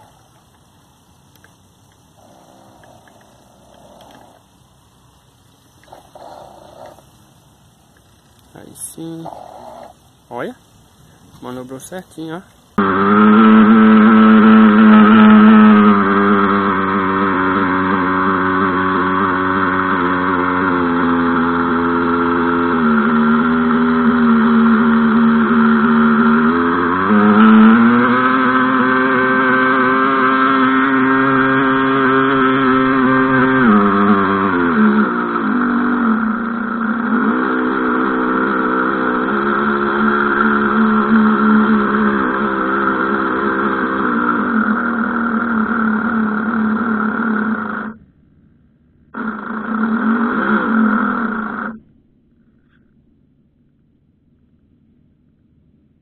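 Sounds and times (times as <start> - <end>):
model boat motor running: 0.0 - 48.0, 49.2 - 51.9.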